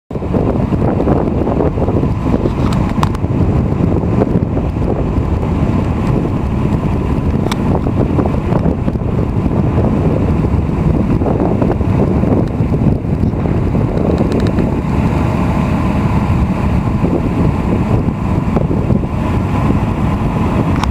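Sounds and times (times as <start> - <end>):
low rumbling noise: 0.1 - 20.9.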